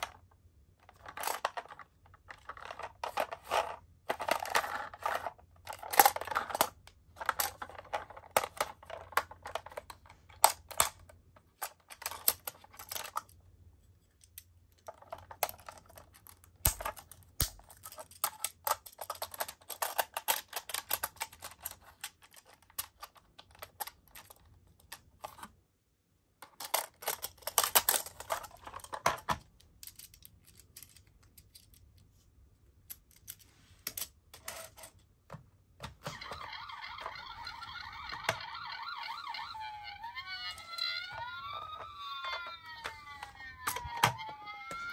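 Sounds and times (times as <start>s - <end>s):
plastic toy parts clicking and rattling: 0.0s - 25.5s, 26.4s - 32.2s, 35.8s - 44.9s.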